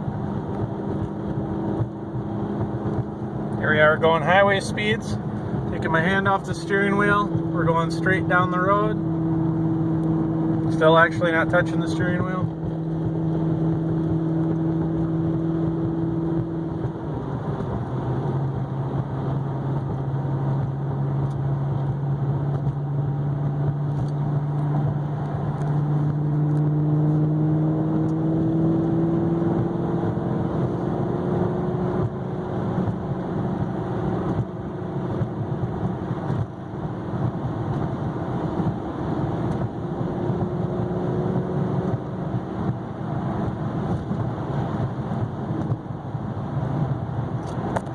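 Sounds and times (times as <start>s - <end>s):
car engine drone: 0.0s - 47.9s
road and wind noise: 0.0s - 47.9s.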